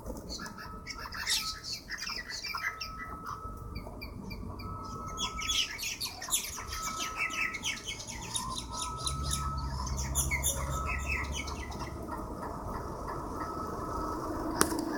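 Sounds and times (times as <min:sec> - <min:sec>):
birds squawking and chattering: 0:00.0 - 0:14.9
low steady hum: 0:00.0 - 0:14.9.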